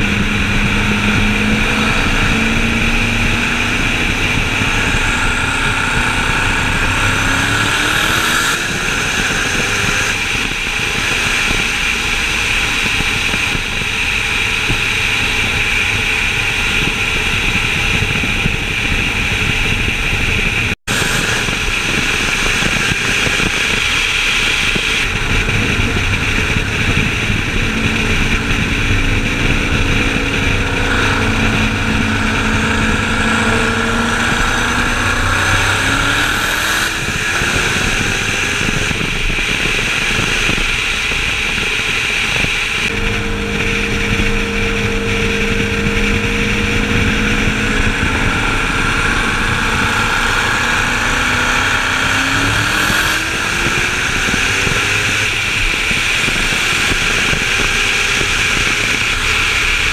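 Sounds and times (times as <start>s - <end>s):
car engine running: 0.0s - 59.9s
wind and road noise: 0.0s - 59.9s.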